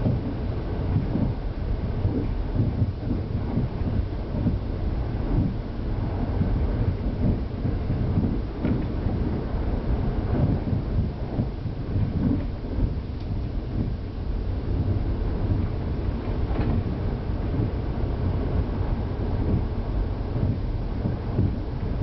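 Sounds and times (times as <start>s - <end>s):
diesel railcar rumbling: 0.0s - 22.0s.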